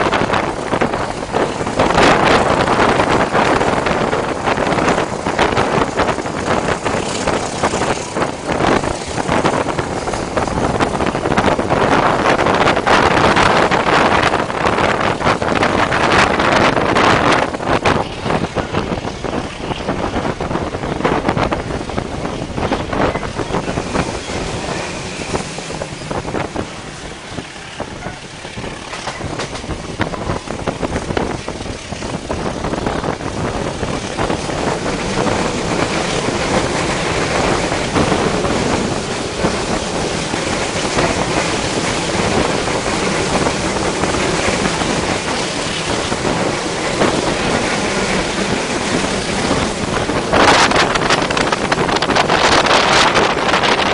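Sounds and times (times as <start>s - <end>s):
train rumble: 0.0s - 53.9s
wheels knocking and rattling: 0.0s - 53.9s
wind buffeting microphone: 0.0s - 53.9s.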